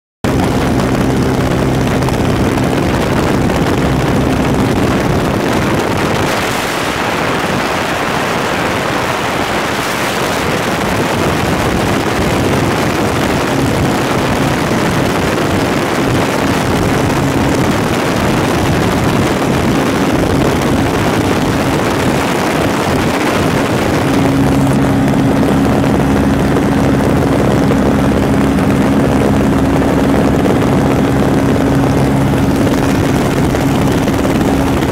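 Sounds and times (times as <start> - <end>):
airplane engine and propeller drone: 0.2 - 34.9
heavy wind rush: 0.2 - 34.9.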